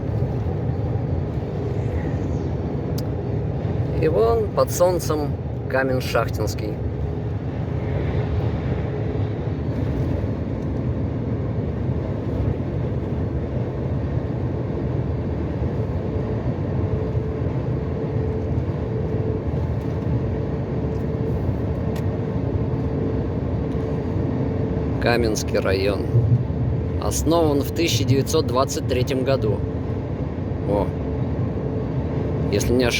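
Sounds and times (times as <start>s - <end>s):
road rumble: 0.0s - 32.9s
truck engine drone: 0.0s - 32.9s.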